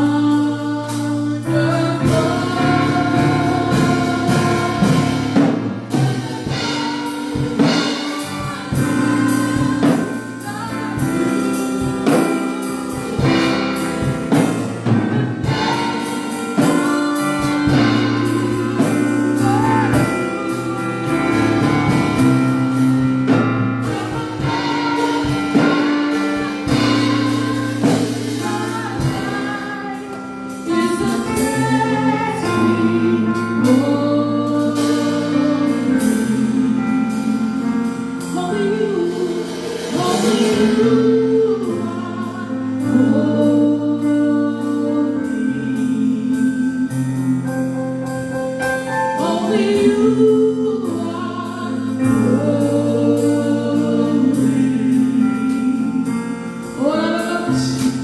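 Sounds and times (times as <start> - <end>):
bass and keyboard: 0.0 - 58.0
gospel group singing: 0.0 - 58.0.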